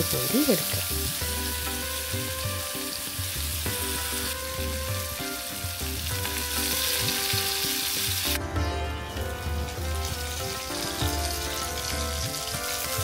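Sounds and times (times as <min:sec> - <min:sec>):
fish sizzling in oil: 0:00.0 - 0:08.4, 0:09.1 - 0:13.0
soft background music: 0:00.0 - 0:13.0.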